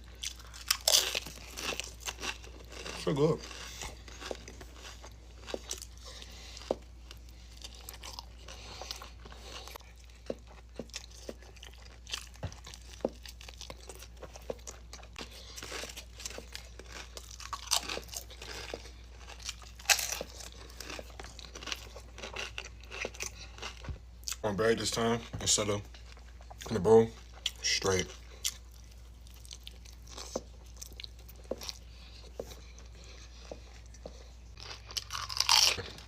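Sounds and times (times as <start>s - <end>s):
person chewing crunchy food: 0.0s - 36.0s.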